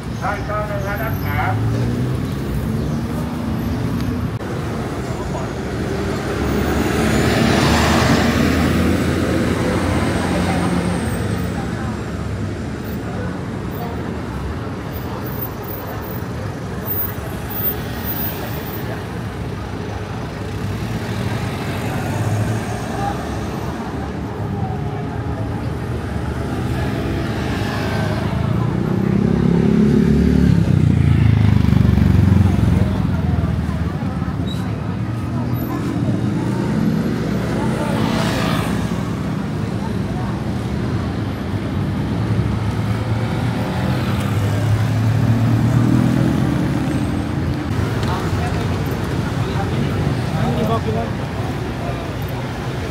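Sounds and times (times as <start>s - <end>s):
heavy engine: 0.0s - 52.9s
road traffic rumble: 0.0s - 52.9s
vehicles passing: 0.0s - 52.9s.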